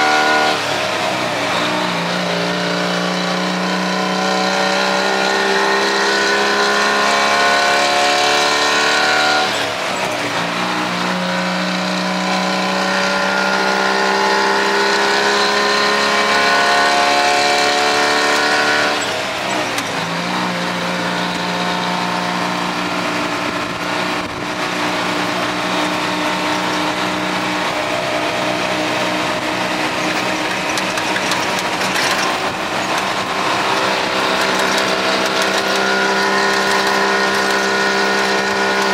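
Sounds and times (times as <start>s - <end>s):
diesel truck engine accelerating: 0.0s - 38.9s.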